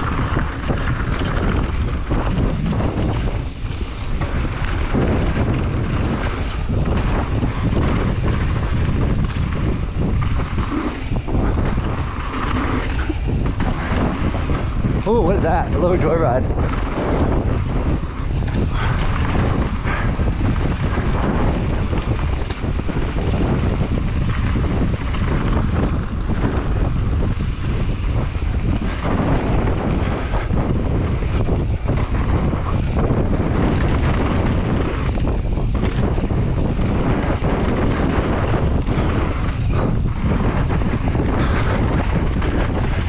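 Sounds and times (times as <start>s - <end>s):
bike rolling over rough trail: 0.0s - 43.0s
wind rushing over microphone: 0.0s - 43.0s.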